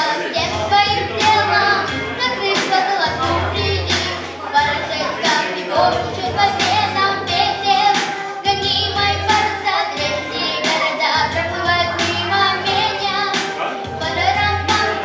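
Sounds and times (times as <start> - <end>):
girl singing with vibrato: 0.0 - 15.0
instrumental music with beat and bass: 0.4 - 15.0.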